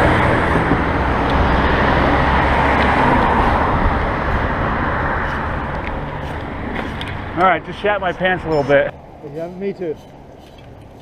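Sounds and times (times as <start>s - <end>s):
vehicles passing close by: 0.0s - 11.0s.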